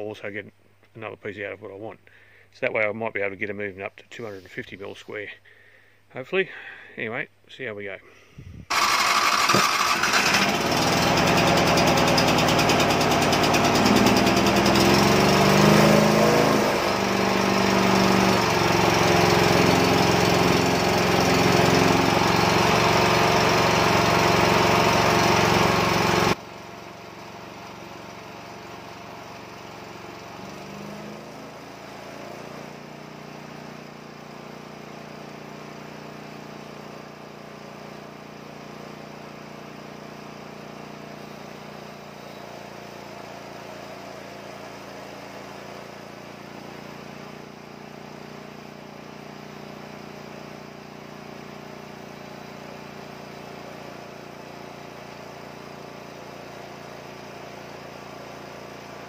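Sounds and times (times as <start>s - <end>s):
sawmill engine running: 8.7s - 59.0s.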